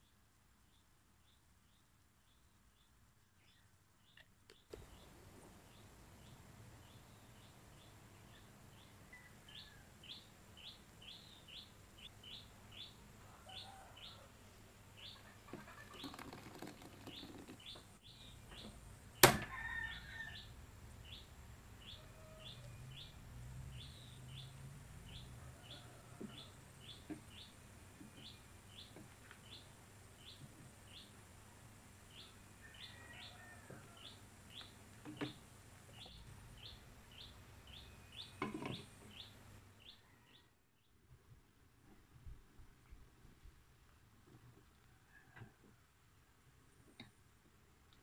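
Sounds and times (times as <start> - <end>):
small bird chirping: 0.0 - 14.3, 14.9 - 31.2, 32.1 - 41.0.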